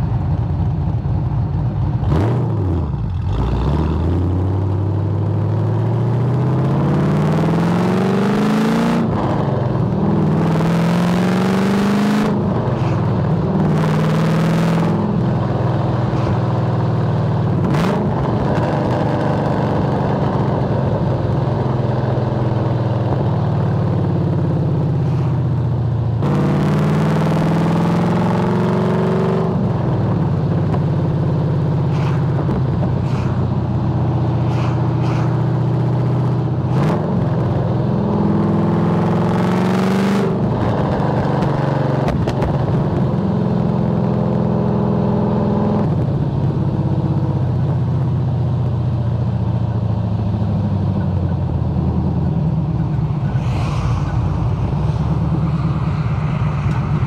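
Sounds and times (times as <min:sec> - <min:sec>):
car engine accelerating: 0:00.0 - 0:48.1, 0:48.7 - 0:57.0.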